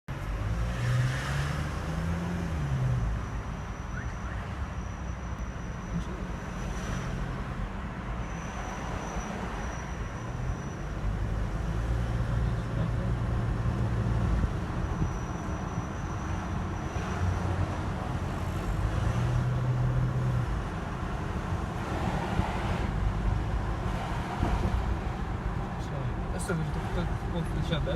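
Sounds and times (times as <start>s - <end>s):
car engine and road rumble: 0.1s - 27.9s.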